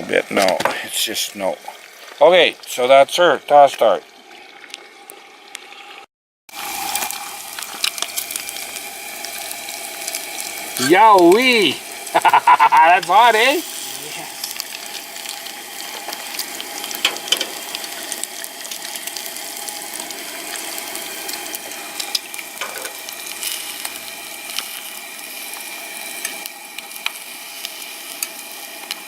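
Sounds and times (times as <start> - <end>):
fish frying in grease: 0.0 - 29.0.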